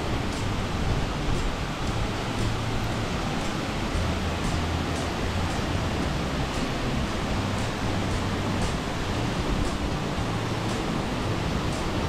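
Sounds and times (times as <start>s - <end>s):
waterfall crashing onto rocks: 0.0s - 12.0s
faint light ticks: 1.3s - 12.0s.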